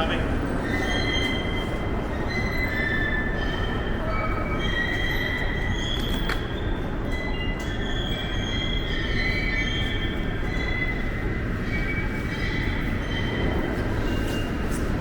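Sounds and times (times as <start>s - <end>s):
subway train rumbling: 0.0s - 15.0s
wheel squeal: 0.5s - 14.8s.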